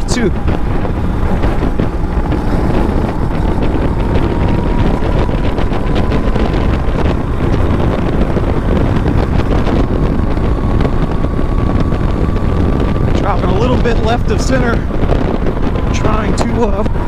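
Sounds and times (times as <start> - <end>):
kart engine running: 0.0 - 17.0
wind buffeting microphone: 0.0 - 17.0.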